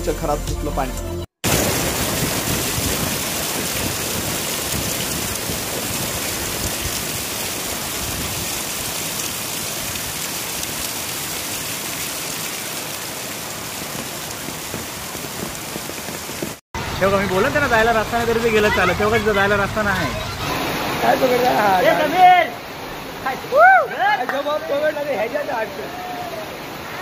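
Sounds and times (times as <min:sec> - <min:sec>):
torrential rain pouring: 0:01.4 - 0:27.0.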